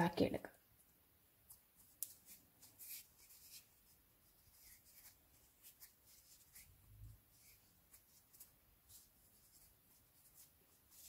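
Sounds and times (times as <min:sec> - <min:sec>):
hands rubbing dough: 0:01.3 - 0:11.0.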